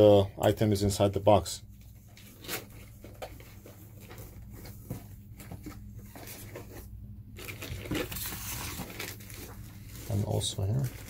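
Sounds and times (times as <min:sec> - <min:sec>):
low electrical hum: 0:00.0 - 0:11.0
packing materials rustling: 0:01.8 - 0:11.0.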